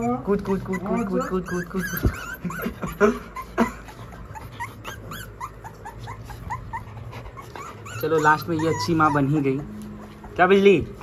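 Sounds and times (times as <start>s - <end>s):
puppies whimpering: 0.0s - 11.0s.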